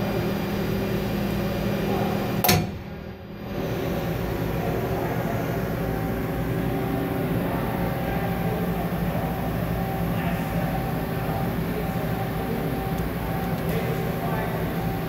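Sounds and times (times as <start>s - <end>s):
machine hum with constant tones: 0.0s - 15.0s.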